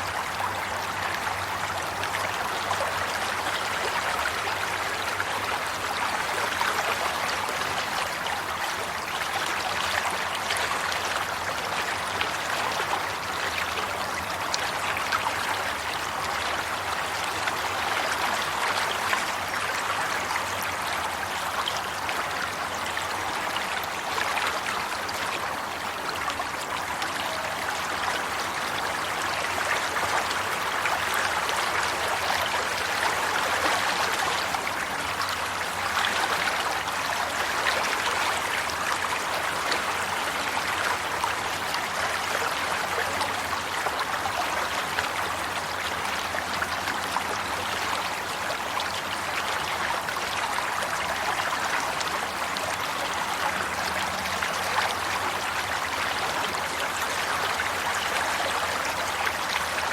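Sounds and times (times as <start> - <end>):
water flowing over stones: 0.0 - 59.9.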